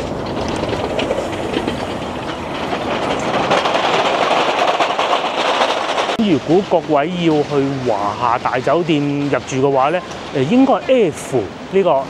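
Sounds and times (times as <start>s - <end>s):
bus tyres rumbling over stone road: 0.0s - 12.0s.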